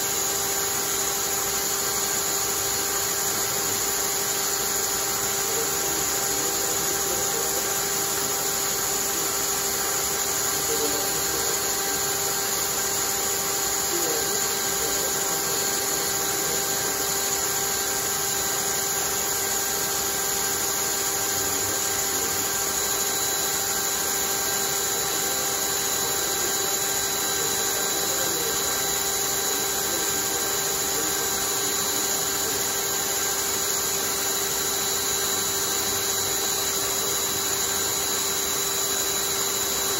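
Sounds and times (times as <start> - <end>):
cordless drill motor whining: 0.0 - 39.9.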